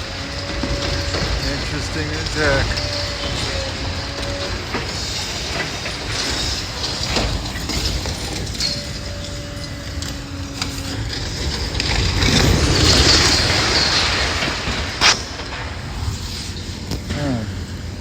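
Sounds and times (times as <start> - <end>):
debris crunching and clattering: 0.0 - 17.7
faint steady whine: 0.0 - 18.0
low engine rumble: 0.0 - 18.0.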